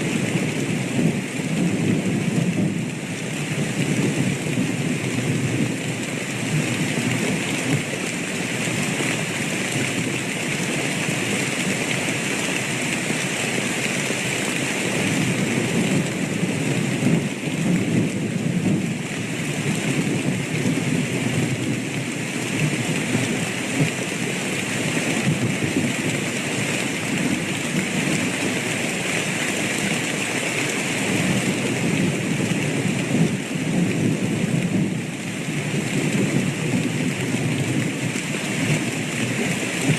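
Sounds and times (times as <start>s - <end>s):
low thunder rumbling: 0.0s - 12.0s, 14.8s - 29.0s, 31.0s - 39.9s
steady rain falling: 0.0s - 39.9s.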